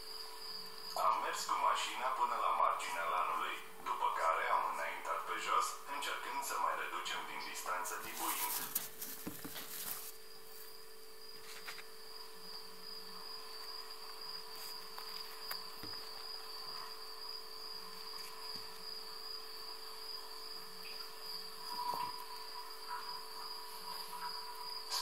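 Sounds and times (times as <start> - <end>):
constant low hum: 0.0 - 25.0
insects trilling: 0.0 - 25.0.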